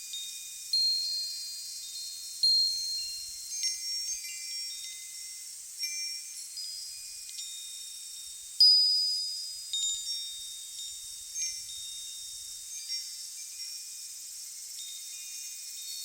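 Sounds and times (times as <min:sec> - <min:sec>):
steady high hiss: 0:00.0 - 0:16.0
wind chimes ringing: 0:00.0 - 0:16.0.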